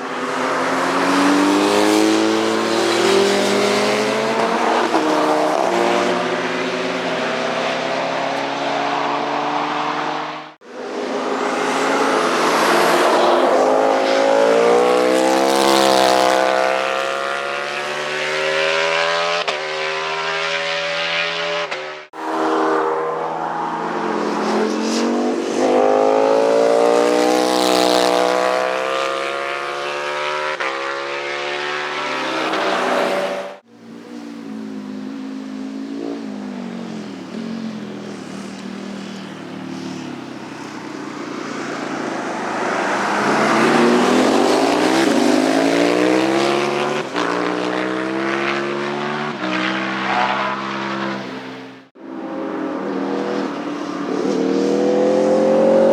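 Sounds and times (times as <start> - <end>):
motorcycles passing at high revs: 0.0 - 55.9.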